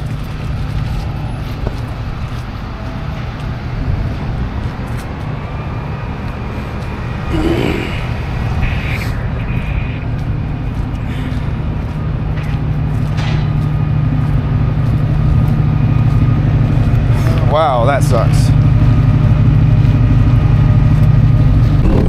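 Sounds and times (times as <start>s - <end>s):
vehicle engine and road drone: 0.0s - 22.0s.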